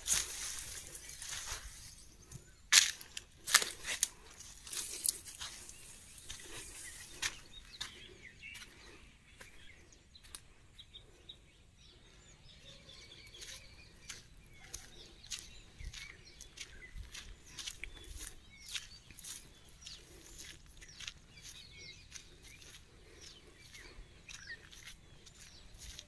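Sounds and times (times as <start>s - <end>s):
faint bird chirps: 4.3s - 26.0s.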